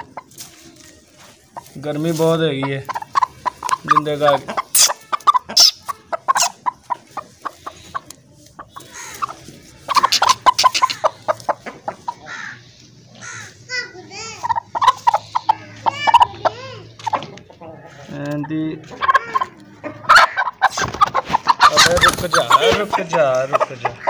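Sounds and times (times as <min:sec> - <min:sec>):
hen clucking: 0:00.0 - 0:24.0
hen squawking: 0:01.6 - 0:17.2, 0:18.9 - 0:24.0.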